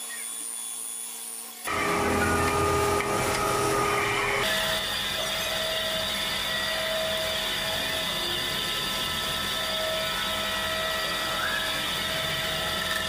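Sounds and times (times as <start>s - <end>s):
metal lathe whining: 0.1s - 13.0s.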